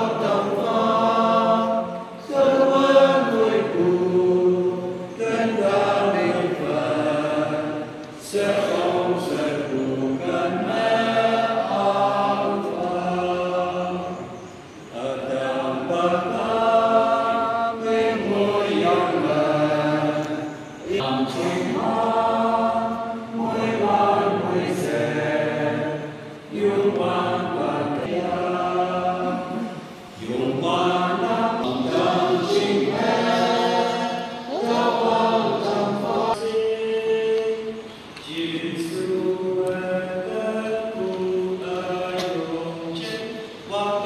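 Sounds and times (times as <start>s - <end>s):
congregation singing a hymn: 0.0s - 44.0s.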